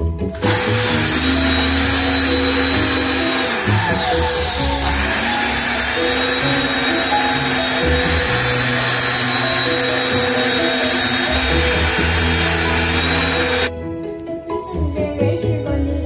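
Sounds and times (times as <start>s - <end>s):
background music: 0.0s - 16.0s
blender running: 0.4s - 13.7s.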